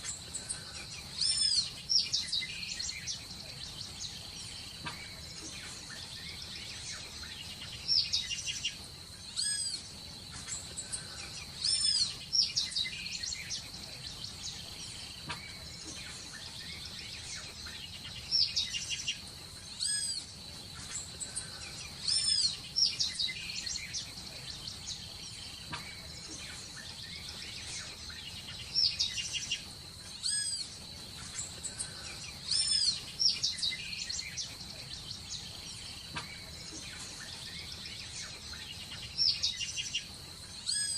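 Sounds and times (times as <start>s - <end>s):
birds whistling and chirping: 0.0s - 40.9s
high insect drone: 0.0s - 40.9s.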